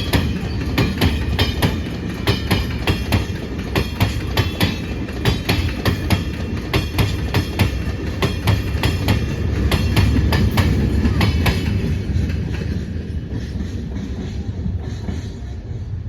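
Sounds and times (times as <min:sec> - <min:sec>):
train rumble: 0:00.0 - 0:16.0
train wheels clicking over rail joints: 0:00.0 - 0:16.0.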